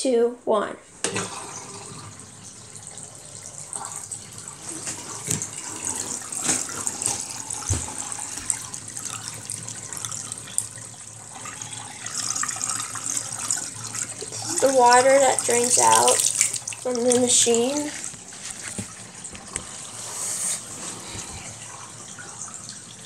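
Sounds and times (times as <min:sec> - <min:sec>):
water draining into sink: 0:01.0 - 0:23.0.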